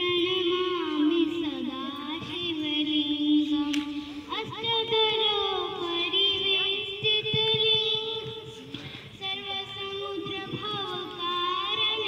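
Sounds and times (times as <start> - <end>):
girl singing into microphone: 0.0 - 12.0.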